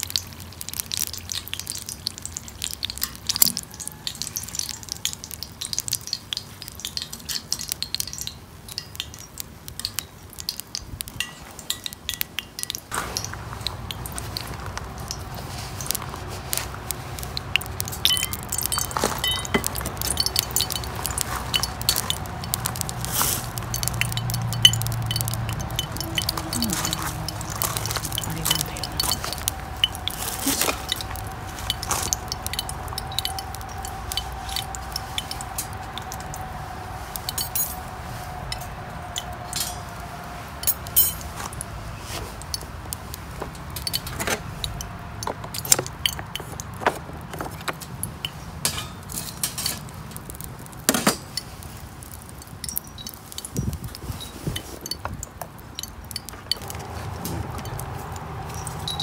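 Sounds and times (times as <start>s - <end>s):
wood fire crackling in a stove: 0.0s - 59.0s.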